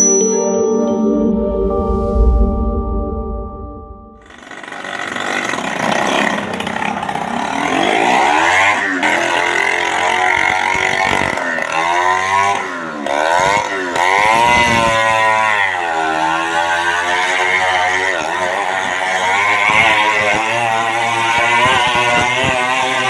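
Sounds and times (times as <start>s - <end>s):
motorcycle engines revving: 4.2s - 23.0s.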